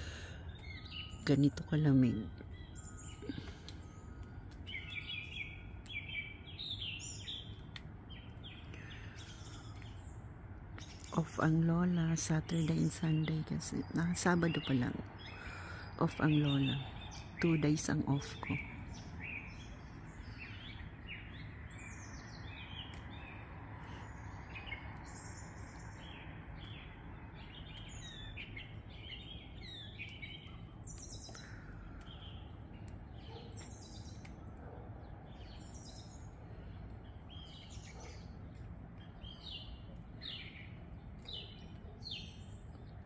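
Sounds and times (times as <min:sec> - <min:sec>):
songbirds chirping and trilling: 0:00.0 - 0:43.0.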